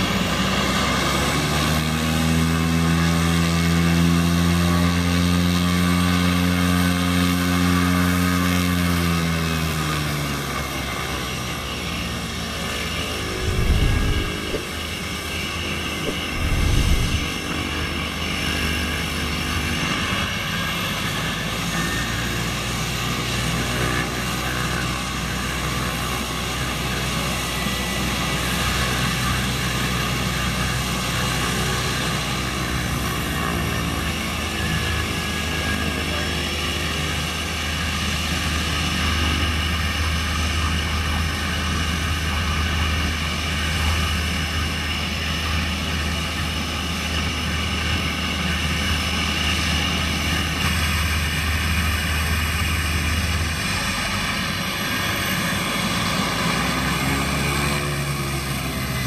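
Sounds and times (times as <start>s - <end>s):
propeller drone with turbine whine: 0.0s - 59.0s.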